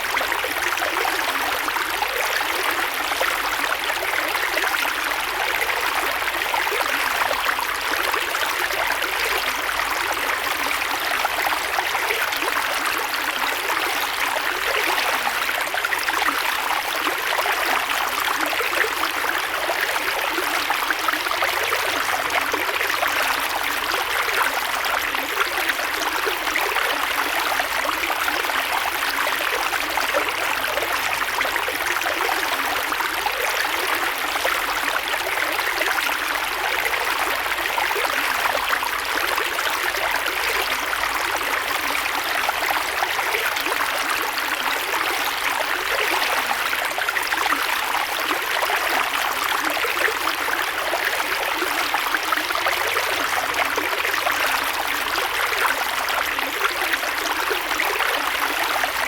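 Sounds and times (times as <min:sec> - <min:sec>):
creek water flowing over rocks: 0:00.0 - 0:59.0.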